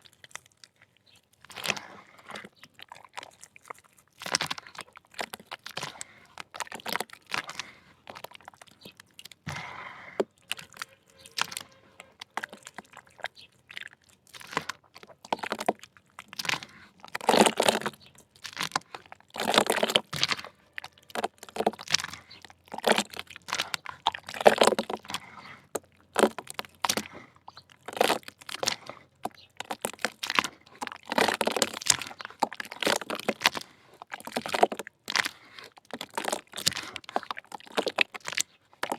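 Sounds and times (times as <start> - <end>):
dirt crunching and crackling: 0.0 - 38.9.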